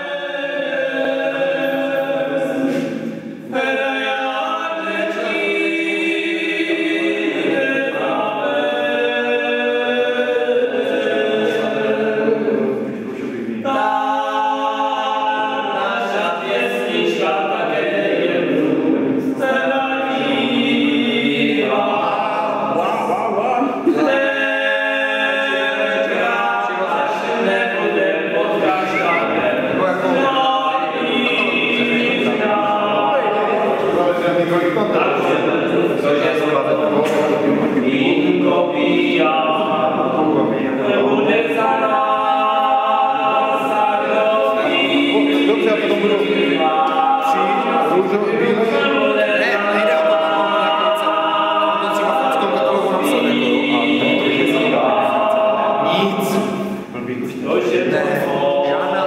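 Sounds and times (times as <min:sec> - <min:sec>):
men singing unaccompanied: 0:00.0 - 0:59.0.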